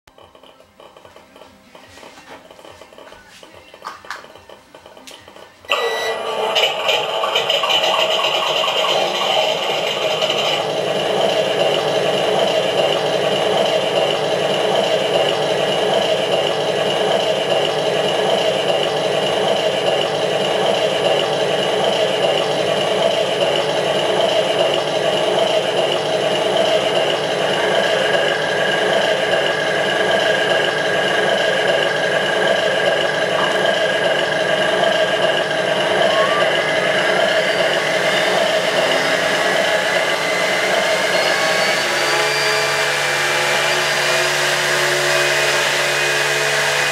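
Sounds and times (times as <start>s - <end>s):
simulated aircraft engine: 6.3s - 46.9s.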